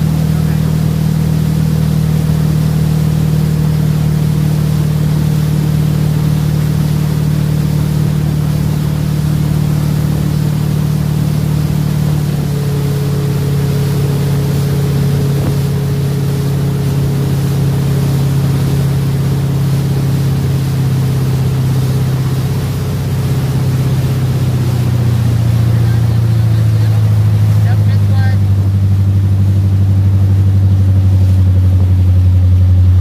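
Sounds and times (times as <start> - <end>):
boat engine humming: 0.0 - 33.0
water rushing in wake: 0.0 - 33.0.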